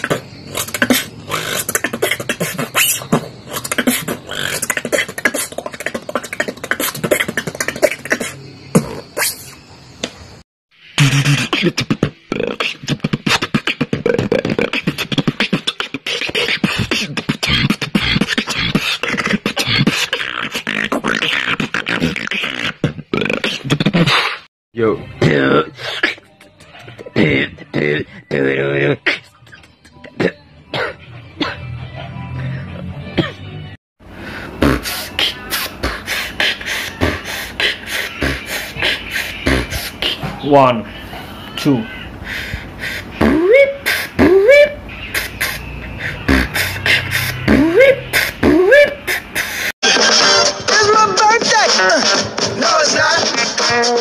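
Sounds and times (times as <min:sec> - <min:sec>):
person beatboxing: 0:00.0 - 0:09.5, 0:10.9 - 0:24.5, 0:25.2 - 0:31.6, 0:34.4 - 0:54.0.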